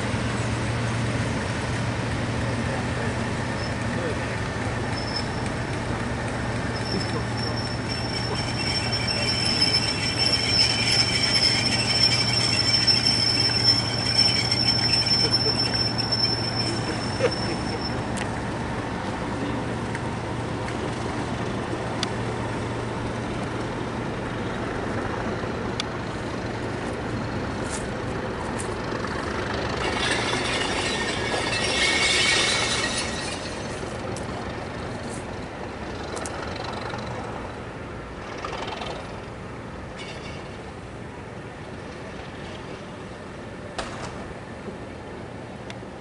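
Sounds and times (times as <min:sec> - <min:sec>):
diesel locomotive engine drone: 0:00.0 - 0:46.0
rushing noise of passing train: 0:00.0 - 0:46.0
train rumble: 0:00.0 - 0:46.0.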